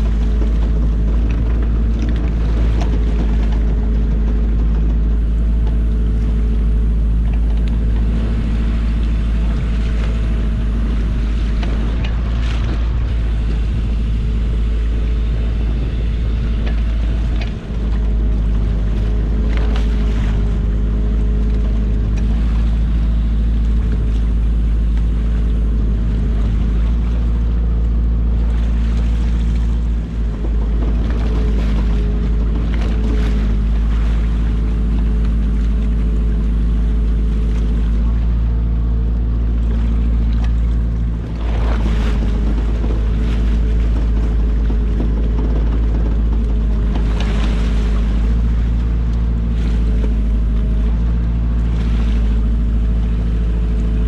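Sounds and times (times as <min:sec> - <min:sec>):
boat engine running: 0:00.0 - 0:54.0
sea noise: 0:00.0 - 0:54.0
wind noise on microphone: 0:00.0 - 0:54.0.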